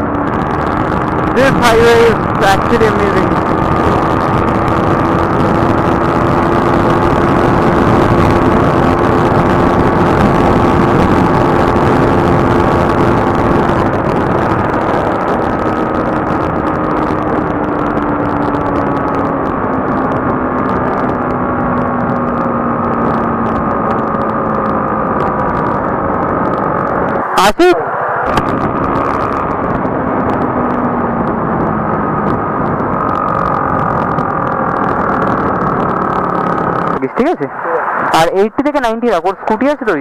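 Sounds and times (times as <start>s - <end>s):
motorcycle engine droning: 0.0s - 40.0s
wind rushing: 0.0s - 40.0s.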